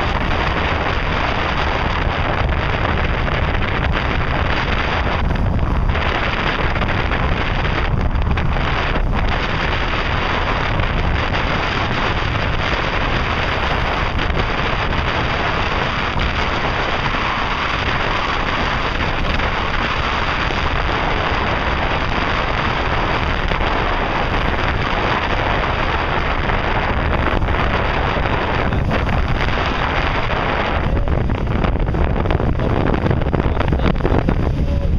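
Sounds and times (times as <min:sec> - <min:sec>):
choppy water hissing: 0:00.0 - 0:34.9
wind rushing over microphone: 0:00.0 - 0:34.9.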